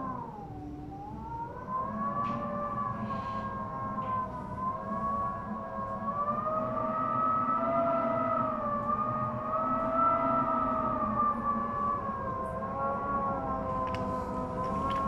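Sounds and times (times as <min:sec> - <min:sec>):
steady rush of wind: 0:00.0 - 0:15.0
wind whistling tones: 0:00.0 - 0:15.0.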